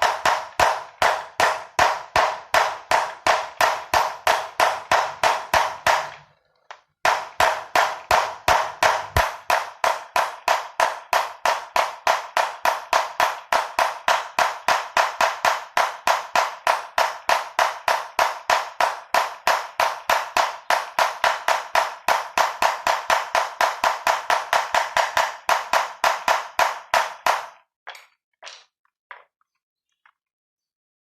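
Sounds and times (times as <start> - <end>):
rapid ringing strikes: 0.0 - 6.2, 7.0 - 27.5.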